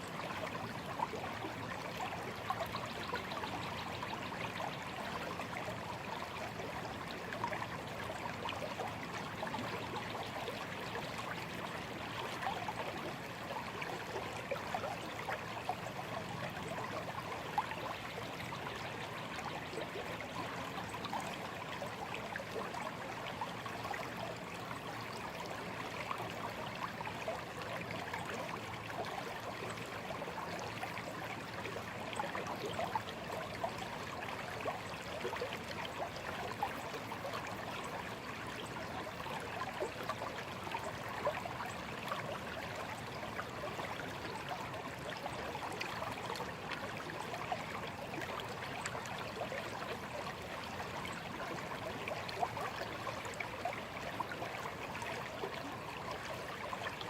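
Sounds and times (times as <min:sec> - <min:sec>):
shallow stream trickling: 0:00.0 - 0:57.0.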